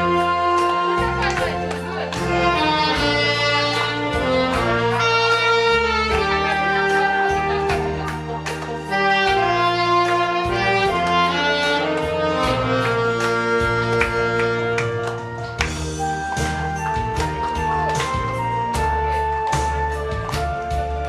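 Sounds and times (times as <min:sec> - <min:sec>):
backing accompaniment with beat: 0:00.0 - 0:21.0
saxophone playing slow melody: 0:00.0 - 0:21.0.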